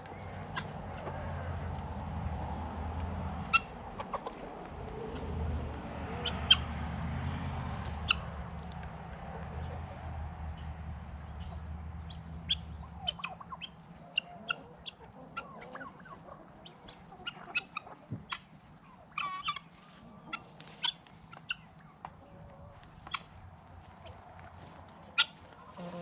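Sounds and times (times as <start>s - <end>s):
chickens clucking and calling: 0.0s - 26.0s.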